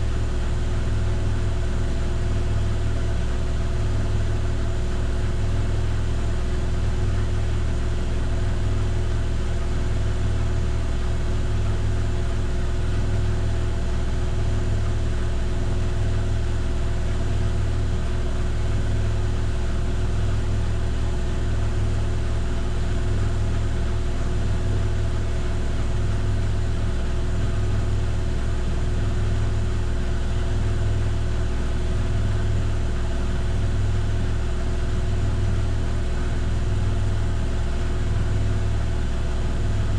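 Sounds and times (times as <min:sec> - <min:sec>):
washing machine spinning: 0:06.5 - 0:39.9.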